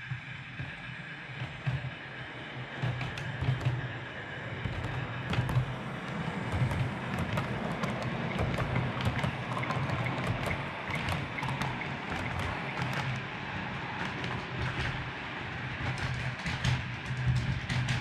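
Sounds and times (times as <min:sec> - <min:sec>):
wheels clicking on rails: 0:00.0 - 0:18.0.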